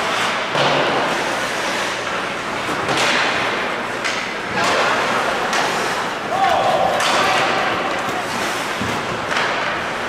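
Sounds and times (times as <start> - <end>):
sticks striking puck: 0.0 - 6.1, 6.8 - 10.0
skate blades scraping ice: 0.0 - 6.3, 7.2 - 10.0.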